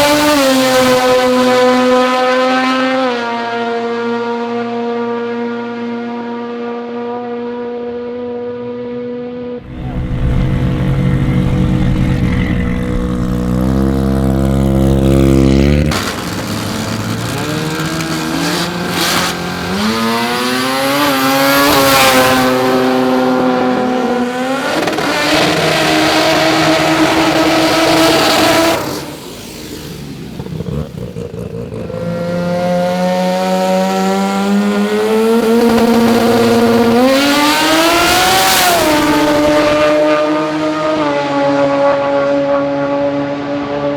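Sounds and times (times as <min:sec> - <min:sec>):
rotary race car engine at full throttle: 0:00.0 - 0:43.9.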